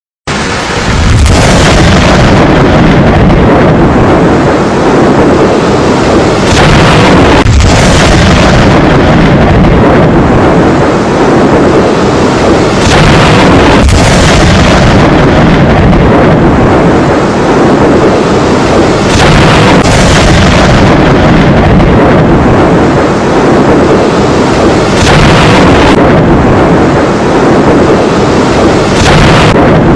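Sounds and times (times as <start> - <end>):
heavy rain pouring: 0.3 - 29.9.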